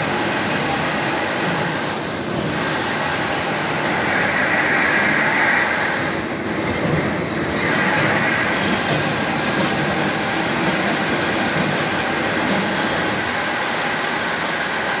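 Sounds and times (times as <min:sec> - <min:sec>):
high-pitched tool squeal: 0:00.0 - 0:15.0
milling machine noise: 0:00.0 - 0:15.0.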